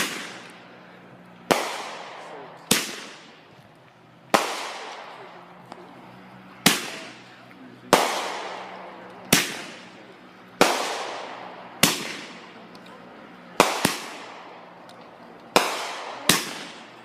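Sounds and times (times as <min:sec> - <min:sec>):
fireworks bangs: 0:00.0 - 0:00.8, 0:01.4 - 0:03.6, 0:04.3 - 0:05.8, 0:06.6 - 0:17.0.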